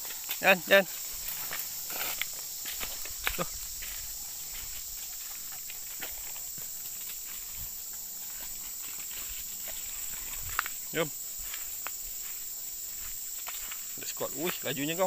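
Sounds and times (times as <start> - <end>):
footsteps on dry leaves: 0.0 - 15.0
forest insects buzzing: 0.0 - 15.0.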